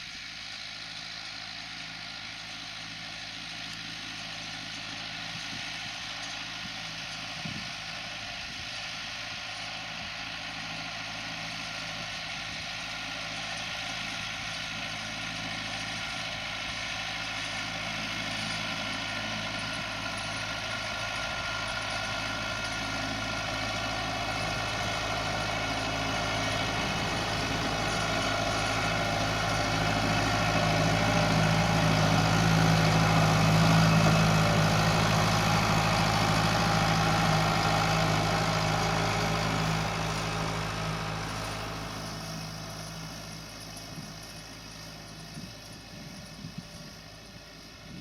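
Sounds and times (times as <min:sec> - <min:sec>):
tractor diesel engine passing: 0:00.0 - 0:48.0.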